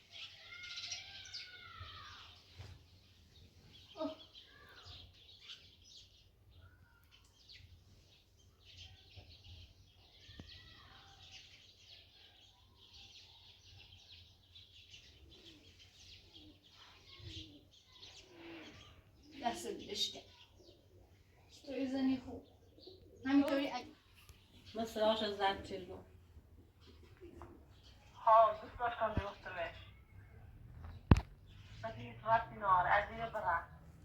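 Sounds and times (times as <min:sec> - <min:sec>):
faint birds chirping: 0:00.0 - 0:34.0.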